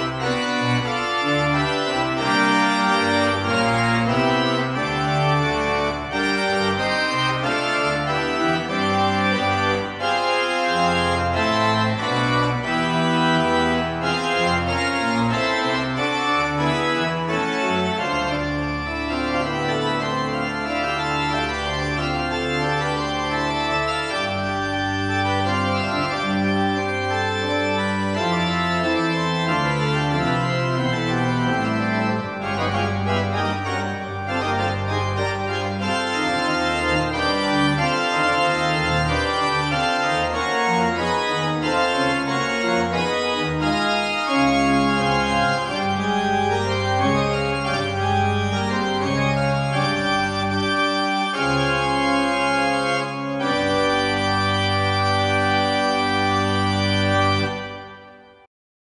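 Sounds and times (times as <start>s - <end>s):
church organ chords: 0.0s - 58.5s.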